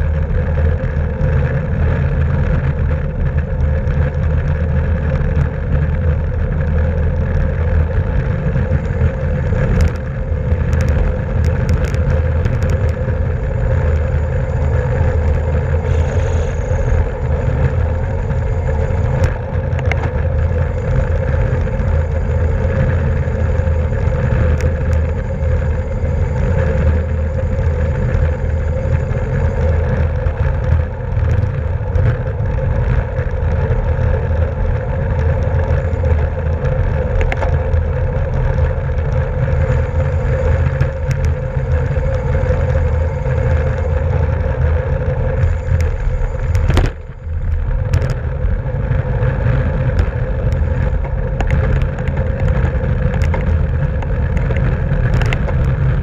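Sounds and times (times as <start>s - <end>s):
road noise: 0.0s - 56.0s
wind rush on microphone: 0.0s - 56.0s.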